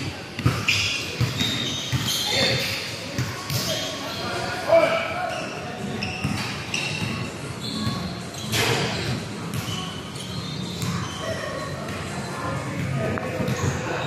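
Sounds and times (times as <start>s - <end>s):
voices in echoing hall: 0.0s - 14.0s
shoes squeaking on court: 0.4s - 4.4s, 5.3s - 14.0s.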